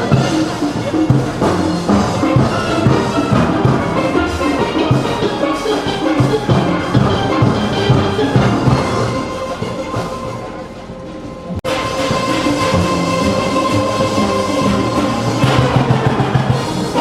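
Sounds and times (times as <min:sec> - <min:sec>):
drums keeping a steady beat: 0:00.0 - 0:17.0
steel pans playing: 0:00.0 - 0:17.0.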